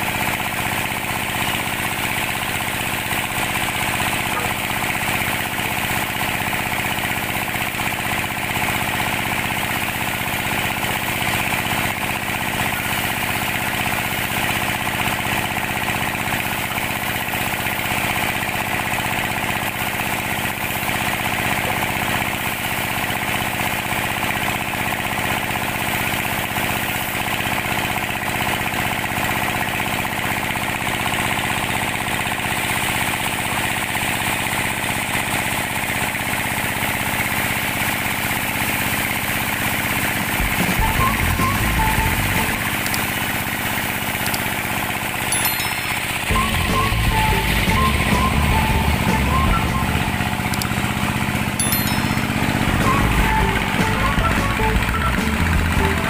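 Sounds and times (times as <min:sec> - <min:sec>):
band sawmill running: 0:00.0 - 0:56.0.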